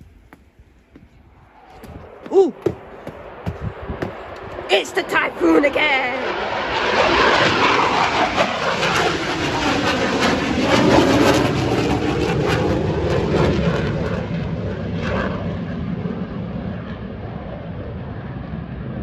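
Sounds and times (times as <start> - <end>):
jet roaring past: 0.0 - 19.0.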